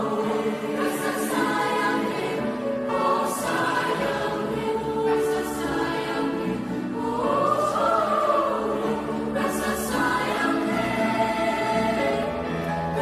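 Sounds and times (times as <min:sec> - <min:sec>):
choir singing in parts: 0:00.0 - 0:13.0.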